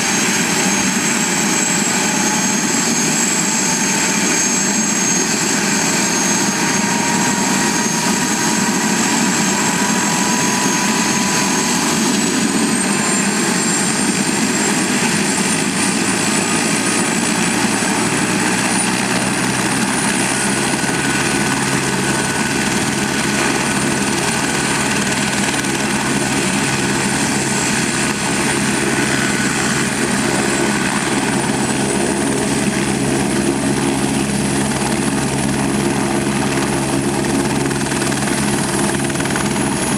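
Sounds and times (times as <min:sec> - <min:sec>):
high turbine whine: 0:00.0 - 0:39.9
low helicopter rotor beat: 0:00.0 - 0:39.9.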